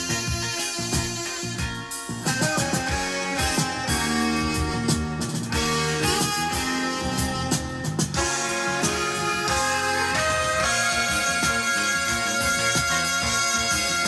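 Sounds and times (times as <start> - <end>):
guitar-led music from cassette: 0.0 - 14.0.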